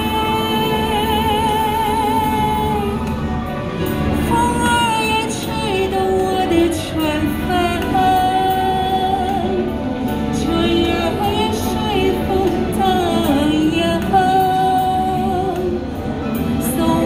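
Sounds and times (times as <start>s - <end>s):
backing track music: 0.0s - 17.0s
woman singing into a microphone: 0.0s - 17.0s.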